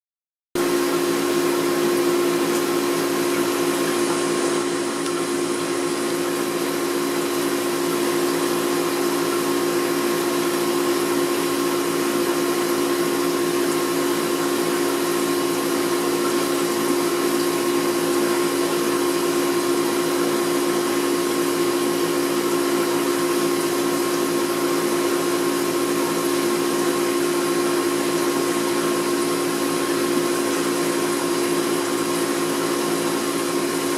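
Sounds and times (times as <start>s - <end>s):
hiss of circulating water: 0.6s - 33.9s
water pump humming: 0.6s - 33.9s.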